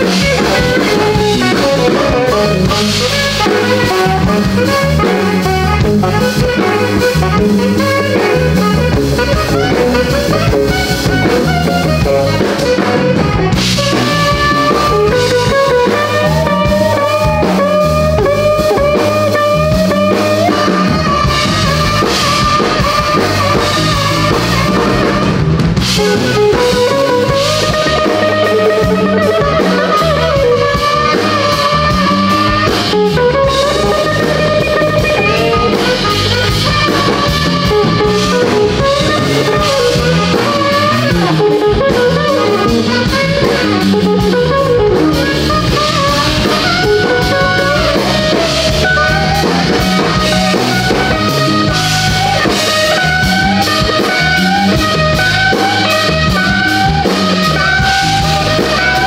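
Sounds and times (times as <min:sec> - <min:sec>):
bass guitar: 0:00.0 - 0:59.0
blues band playing: 0:00.0 - 0:59.0
drum kit: 0:00.0 - 0:59.0
lead line with pitch bends: 0:00.0 - 0:59.0.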